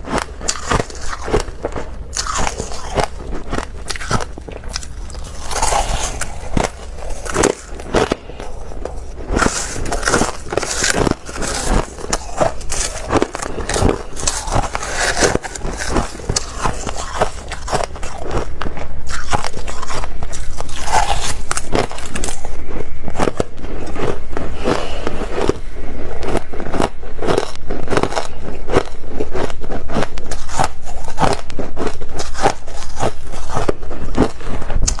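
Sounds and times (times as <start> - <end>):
person crunching frost: 0.0 - 35.0.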